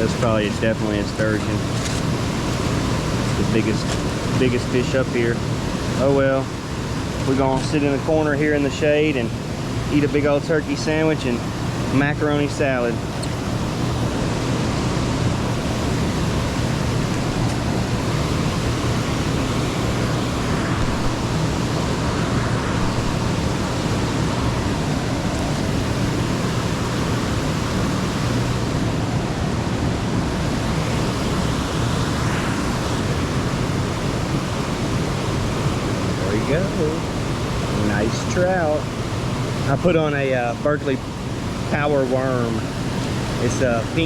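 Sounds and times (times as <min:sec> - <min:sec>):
low hum: 0:00.0 - 0:39.6
water rushing below a dam: 0:00.0 - 0:44.0.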